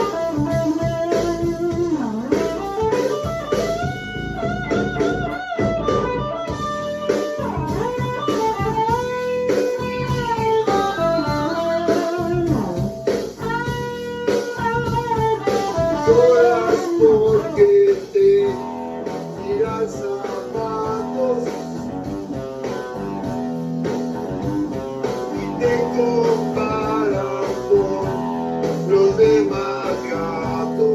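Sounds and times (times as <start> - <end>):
blues guitar lead: 0.0 - 30.9.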